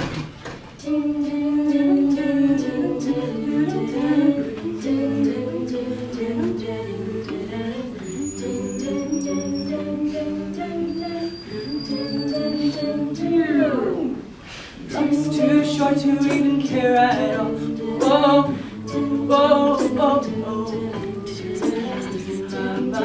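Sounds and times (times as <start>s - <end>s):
a cappella group singing: 0.8s - 23.0s.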